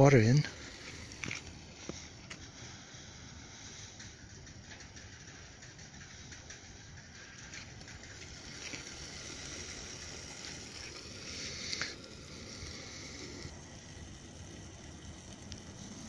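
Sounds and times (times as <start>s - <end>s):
pellet stove burning hiss: 0.0s - 16.0s.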